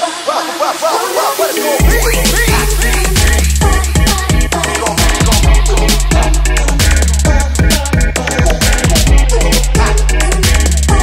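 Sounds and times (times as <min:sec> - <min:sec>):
hip hop music with heavy bass: 0:00.0 - 0:11.0
person singing: 0:00.0 - 0:11.0.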